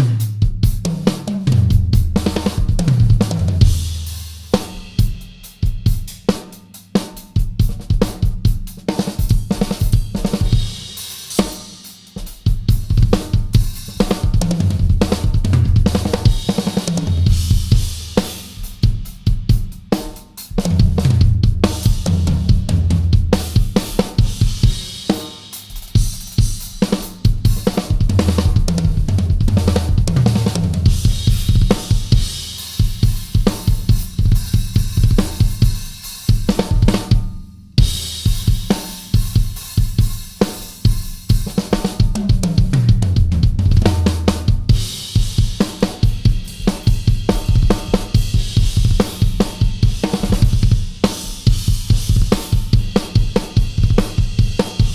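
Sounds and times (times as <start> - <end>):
drum kit groove: 0.0 - 54.9.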